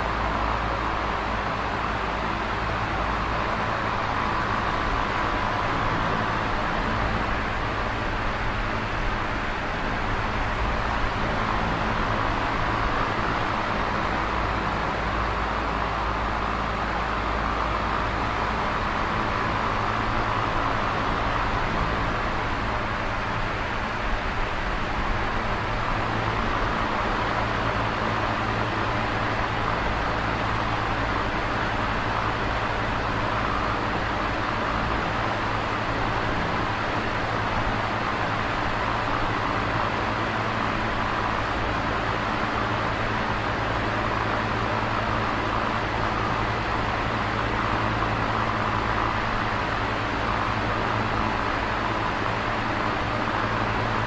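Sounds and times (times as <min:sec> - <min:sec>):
electric fan whirring: 0:00.0 - 0:54.0.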